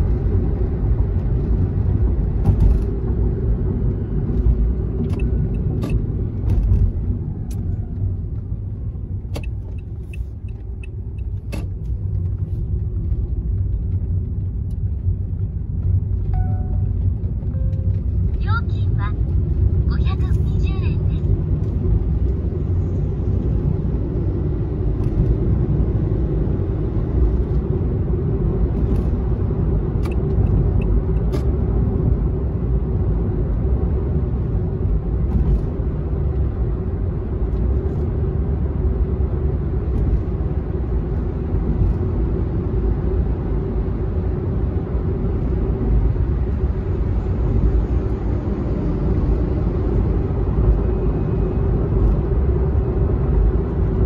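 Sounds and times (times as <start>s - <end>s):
car road rumble from inside: 0.0s - 54.0s.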